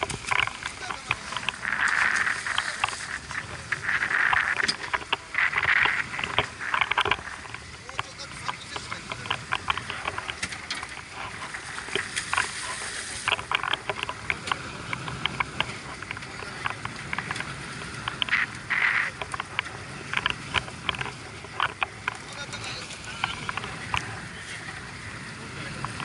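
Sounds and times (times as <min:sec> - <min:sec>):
sharp clicks and knocks: 0:00.0 - 0:12.6, 0:13.2 - 0:24.1
water splashing against boat hull: 0:00.0 - 0:25.0.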